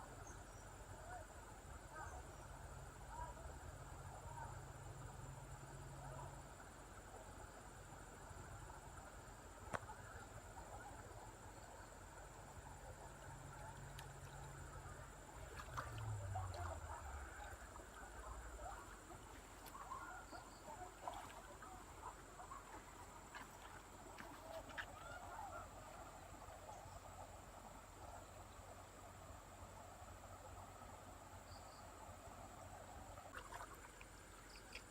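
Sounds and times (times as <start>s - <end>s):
frogs and insects chirping: 0.0s - 34.9s.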